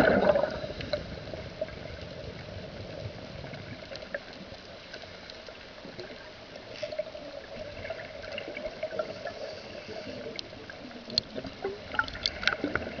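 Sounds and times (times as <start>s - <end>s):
underwater bubbles gurgling: 0.0s - 13.0s.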